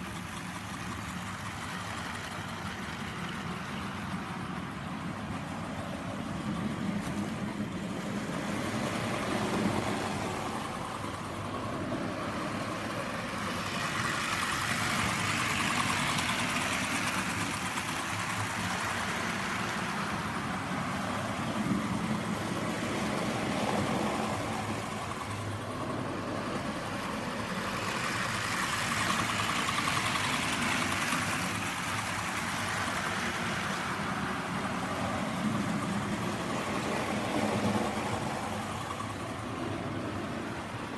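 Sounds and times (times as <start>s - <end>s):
model trains rumbling on track: 0.0s - 40.9s.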